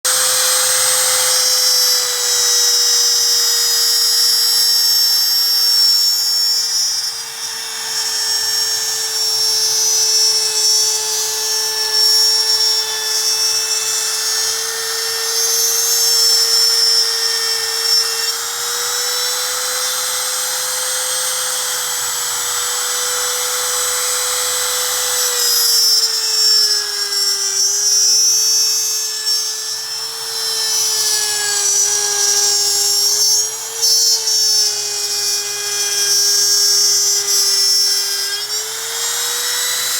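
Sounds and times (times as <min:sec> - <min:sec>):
router whining cutting wood: 0:00.0 - 0:39.9.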